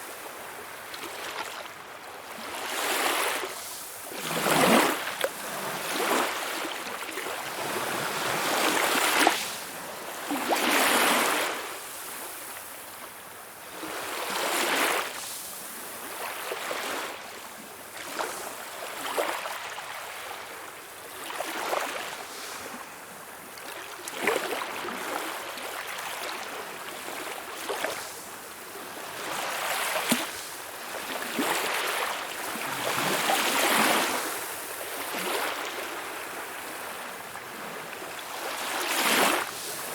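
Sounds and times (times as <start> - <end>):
small waves splashing: 0.0 - 13.1, 13.7 - 39.9.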